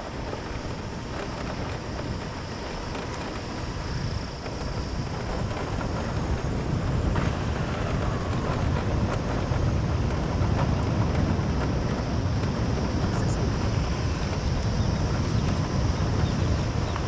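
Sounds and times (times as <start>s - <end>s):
motorbike low rumble: 0.0s - 17.0s
wind rushing over microphone: 0.0s - 17.0s.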